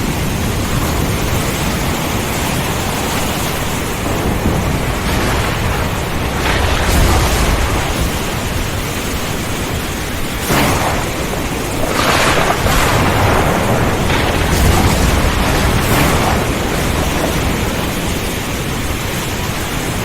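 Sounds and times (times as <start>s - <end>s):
heavy rain: 0.0s - 20.0s
thunder rumbling: 0.0s - 20.0s.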